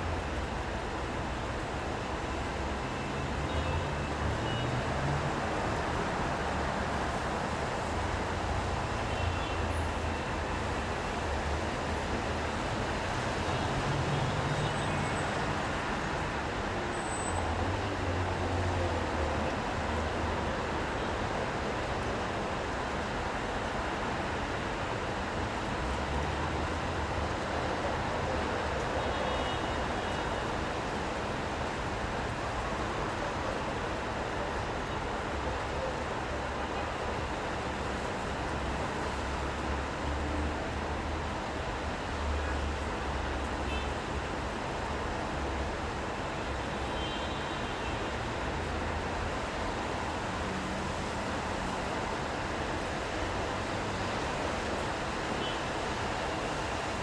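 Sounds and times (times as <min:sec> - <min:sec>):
rain on wet road: 0:00.0 - 0:57.0.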